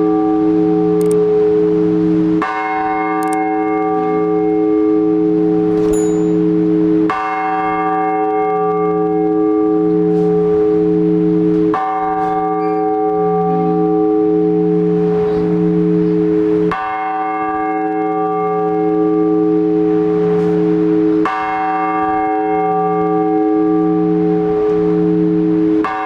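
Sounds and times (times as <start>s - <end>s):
large church bell tolling: 0.0s - 26.0s.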